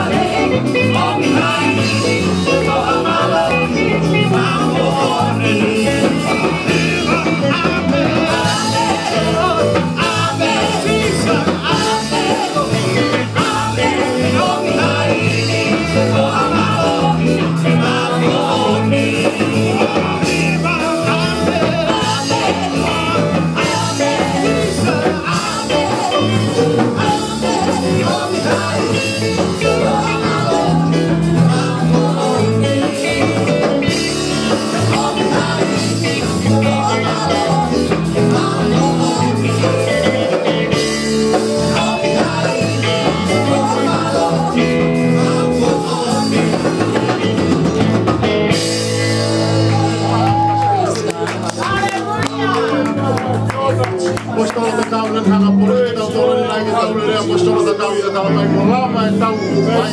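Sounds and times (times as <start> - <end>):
women singing: 0.0 - 48.0
church band playing: 0.0 - 59.9.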